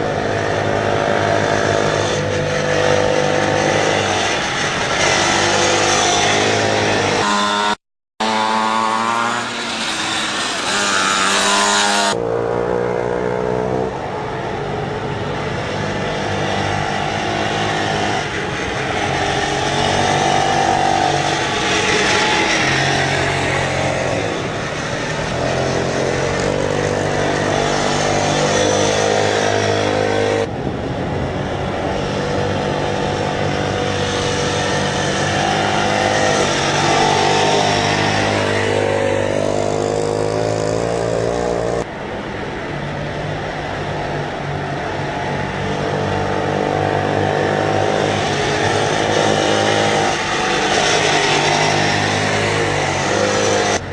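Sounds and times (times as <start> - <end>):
pocket bike engines revving: 0.0 - 12.9, 15.6 - 30.5, 31.4 - 41.9, 45.7 - 53.8.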